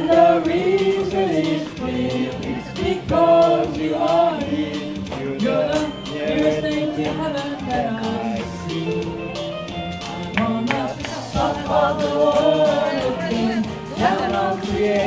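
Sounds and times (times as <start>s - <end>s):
song with singing over a beat: 0.0s - 15.0s.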